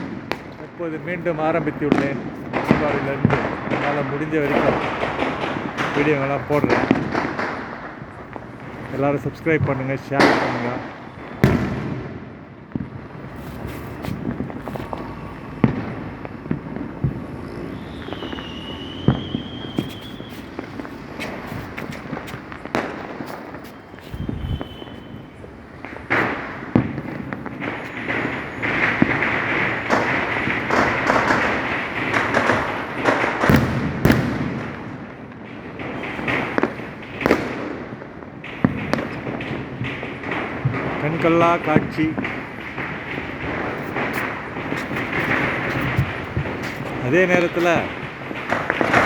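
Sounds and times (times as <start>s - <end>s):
distant firecracker pops: 0.0s - 49.0s
loud sharp firework bangs: 0.0s - 49.0s.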